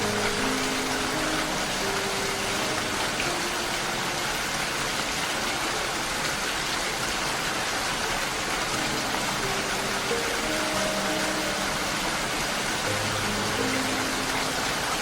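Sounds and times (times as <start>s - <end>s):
faint held music notes: 0.0s - 6.4s, 8.2s - 15.0s
steady rain hiss: 0.0s - 15.0s.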